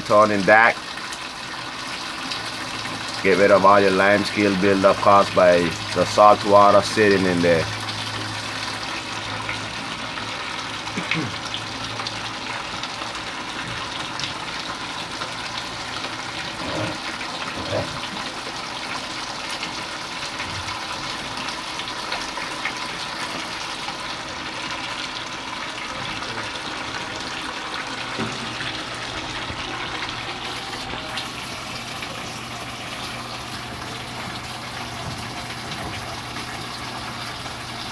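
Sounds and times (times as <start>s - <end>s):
water running and splashing: 0.0s - 37.9s.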